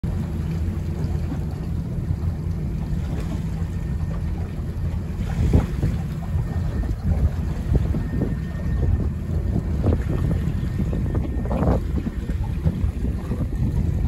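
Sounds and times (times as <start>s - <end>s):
water splashing: 0.0s - 14.0s
wind buffeting microphone: 0.0s - 14.0s.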